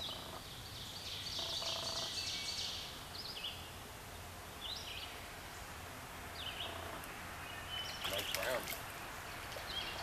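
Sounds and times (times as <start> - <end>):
outdoor background hush: 0.0 - 10.0
songbirds singing: 0.0 - 10.0.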